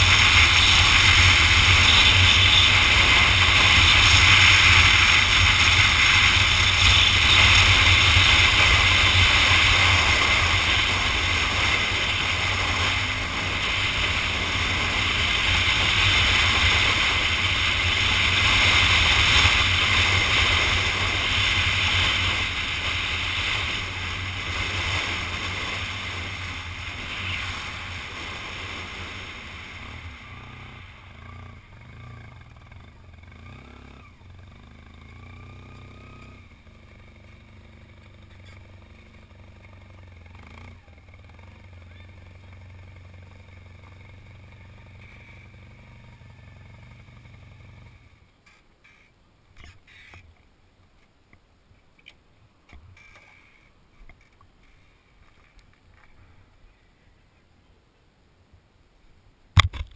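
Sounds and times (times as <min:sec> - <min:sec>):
motorcycle engine and tyre noise: 0:00.0 - 0:59.9.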